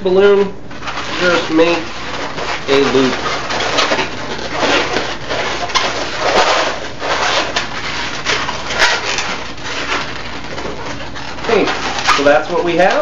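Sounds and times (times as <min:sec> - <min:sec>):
balloons rubbing and squeaking: 0:00.0 - 0:13.0.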